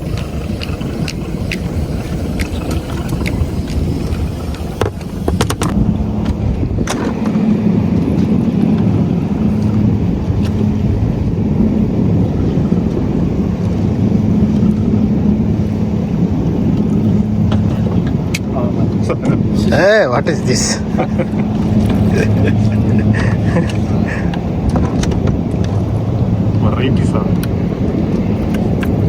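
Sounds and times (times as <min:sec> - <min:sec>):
boat engine rumble: 0:00.0 - 0:29.0
steady hum: 0:00.0 - 0:29.0.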